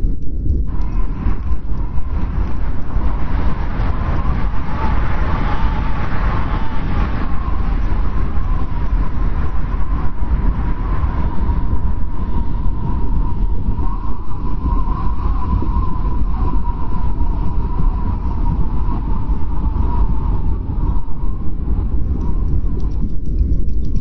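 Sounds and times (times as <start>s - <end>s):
strong wind howling: 0.0s - 24.0s.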